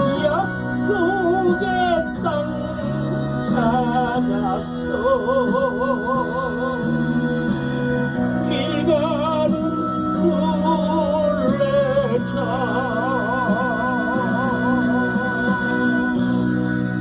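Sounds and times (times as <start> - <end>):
instrumental praise music: 0.0 - 17.0.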